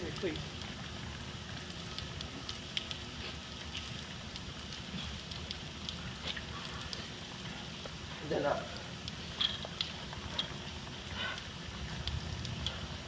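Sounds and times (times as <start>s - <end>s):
artificial rain hiss: 0.0s - 13.0s.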